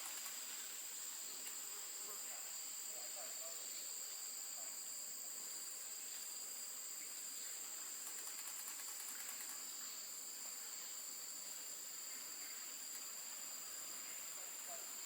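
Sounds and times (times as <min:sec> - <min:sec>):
insect drone: 0:00.0 - 0:15.0
very high rapid insect trill: 0:00.0 - 0:15.0.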